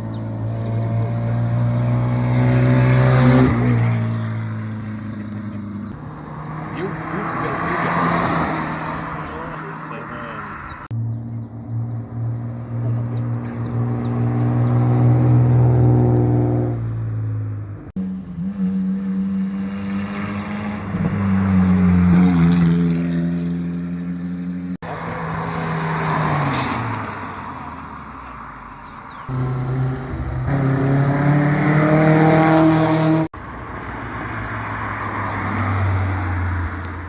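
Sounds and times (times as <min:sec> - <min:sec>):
car engines running: 0:00.0 - 0:37.0.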